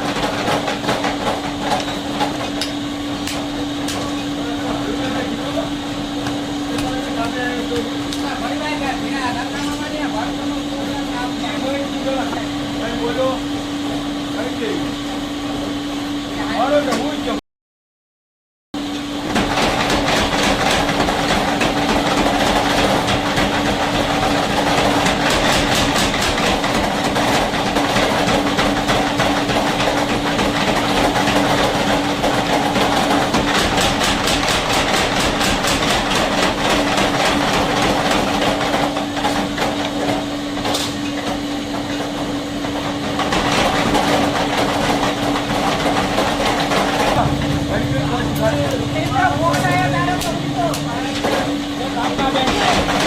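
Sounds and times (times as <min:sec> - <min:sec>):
steady machine hum: 0:00.0 - 0:17.4, 0:18.8 - 0:53.0.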